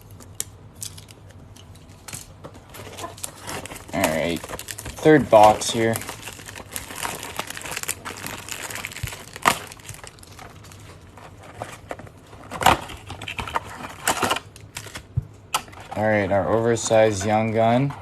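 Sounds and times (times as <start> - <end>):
plastic wrap crinkling: 0.0 - 15.1.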